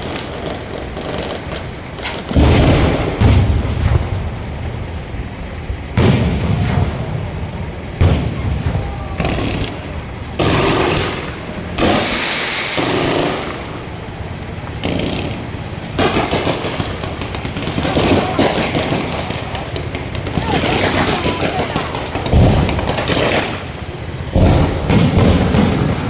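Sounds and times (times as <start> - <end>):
fireworks bursting: 0.0 - 26.0
fireworks crackling hiss: 0.0 - 26.0.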